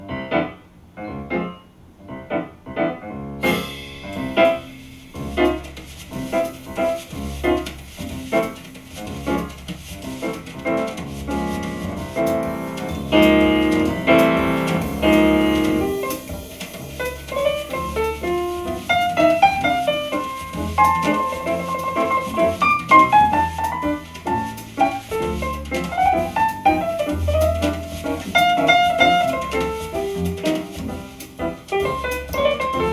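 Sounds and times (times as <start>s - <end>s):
jazz piano trio: 0.0s - 32.9s.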